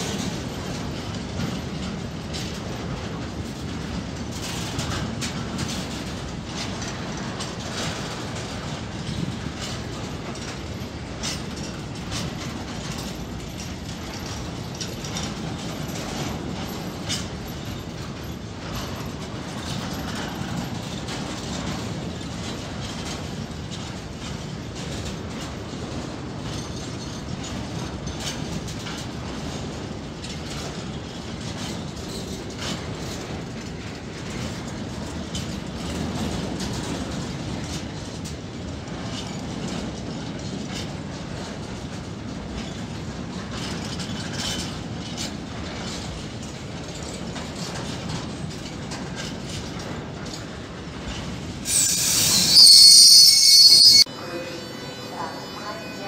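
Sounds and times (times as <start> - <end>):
train wheels rumbling on rails: 0.0 - 56.0
wheels clattering over rail joints: 0.0 - 56.0.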